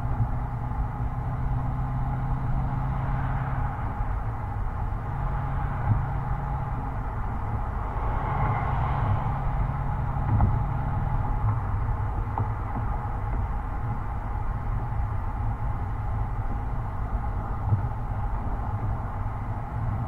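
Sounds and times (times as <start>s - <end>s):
car exhaust drone: 0.0s - 20.0s
road and wind noise: 0.0s - 20.0s.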